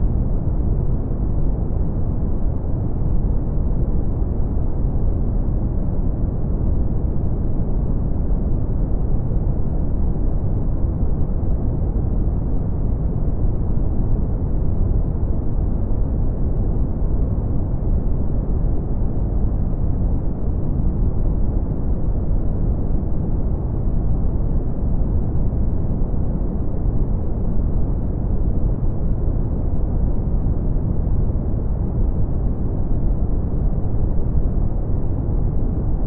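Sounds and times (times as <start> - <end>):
brown noise rumble: 0.0 - 36.0.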